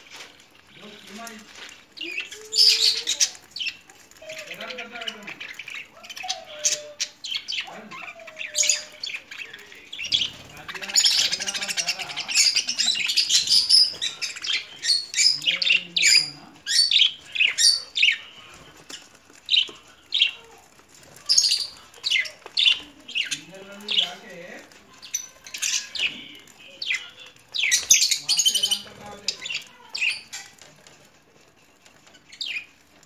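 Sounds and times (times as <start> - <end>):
budgerigars chirping and squawking: 0.0 - 33.0.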